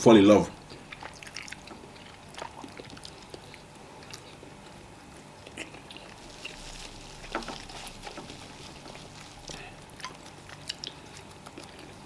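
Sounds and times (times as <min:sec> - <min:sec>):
quiet chewing: 0:00.6 - 0:12.0.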